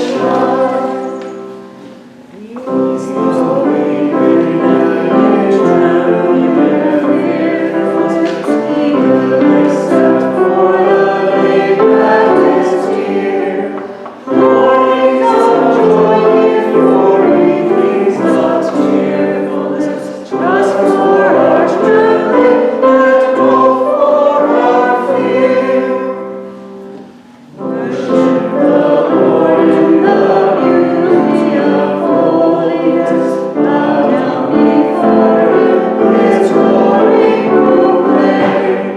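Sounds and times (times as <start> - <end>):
choir singing with accompaniment: 0.0 - 38.9.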